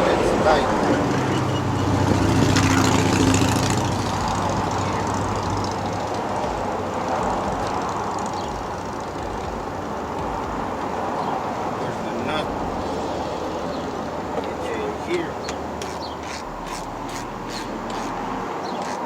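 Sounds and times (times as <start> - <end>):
steady background noise: 0.0 - 19.0
vehicle engine hum: 0.0 - 19.0.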